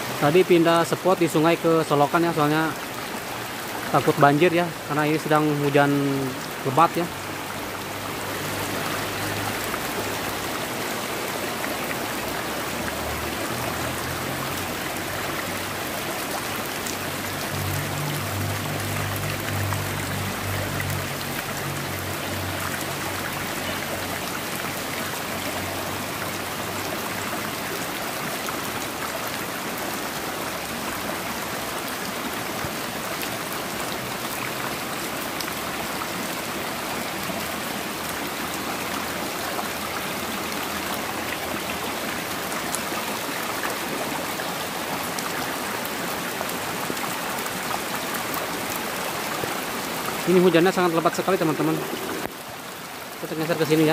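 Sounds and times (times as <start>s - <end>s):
heavy rain hissing: 0.0s - 53.9s
running water in ditch: 0.0s - 53.9s.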